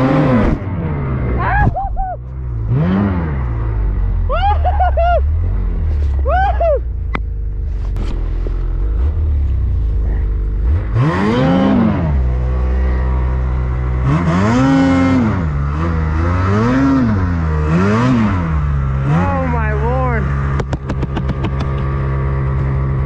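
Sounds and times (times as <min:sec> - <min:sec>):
snowmobile engine revving: 0:00.0 - 0:23.0.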